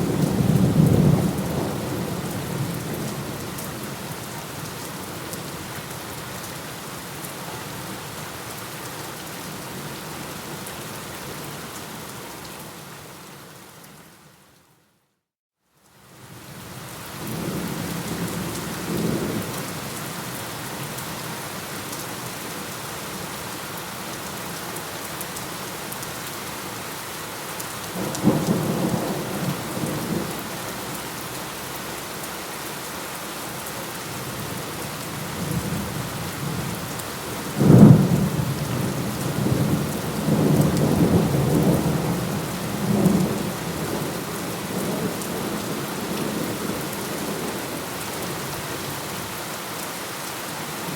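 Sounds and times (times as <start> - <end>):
heavy rain: 0.0 - 14.4, 15.8 - 50.9.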